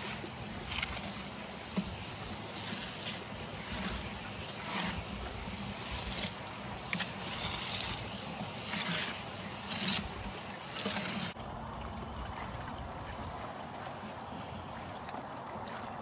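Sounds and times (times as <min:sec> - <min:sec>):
water rushing into a hopper: 0:00.0 - 0:16.0.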